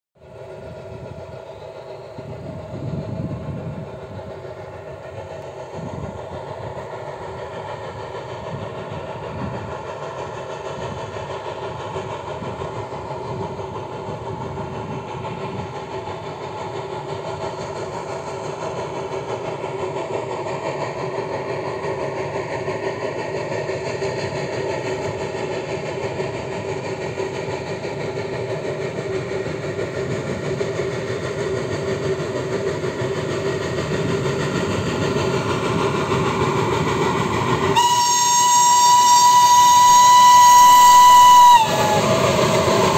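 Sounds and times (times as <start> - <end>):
steam locomotive hum: 0.2 - 42.9.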